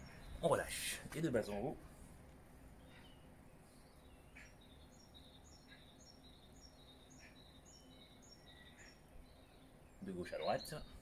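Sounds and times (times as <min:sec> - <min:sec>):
low outdoor background hum: 0:00.0 - 0:11.0.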